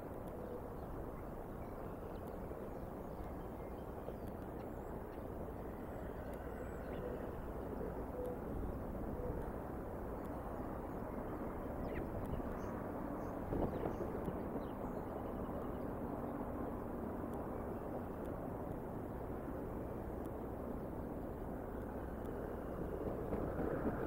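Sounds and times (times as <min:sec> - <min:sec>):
outdoor background rumble and hiss: 0:00.0 - 0:24.0.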